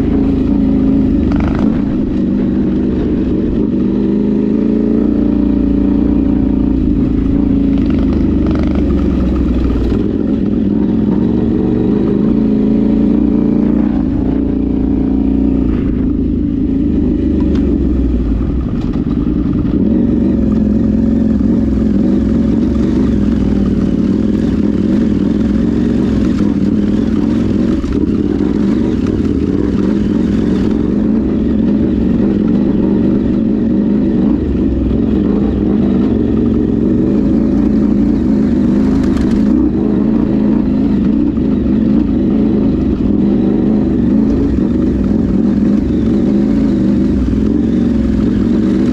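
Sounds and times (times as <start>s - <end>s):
vehicle engine low drone: 0.0s - 48.9s.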